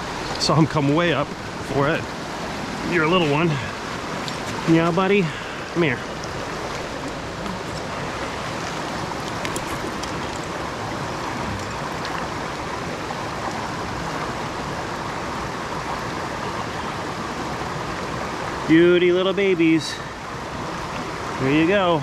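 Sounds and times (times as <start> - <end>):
brook water rushing: 0.0 - 22.0.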